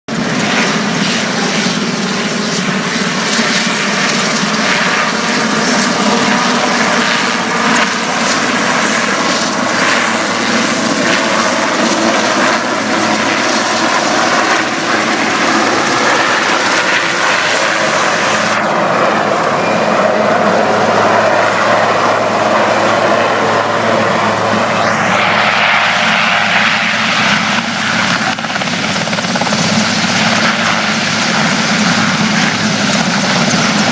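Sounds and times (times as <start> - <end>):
helicopter hovering: 0.1 - 33.9.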